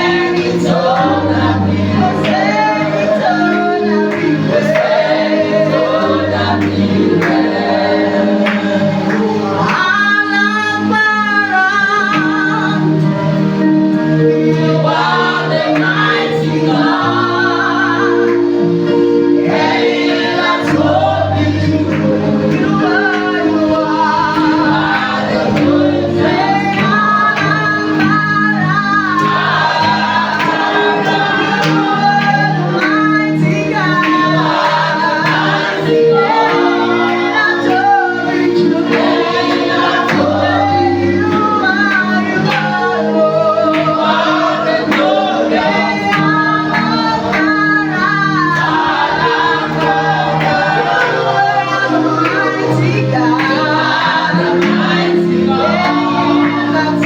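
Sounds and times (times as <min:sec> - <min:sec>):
group singing worship song: 0:00.0 - 0:57.0
instrumental accompaniment chords: 0:00.0 - 0:57.0.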